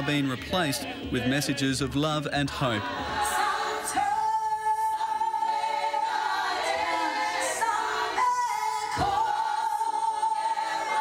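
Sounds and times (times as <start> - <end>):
gospel choir singing: 0.0 - 11.0.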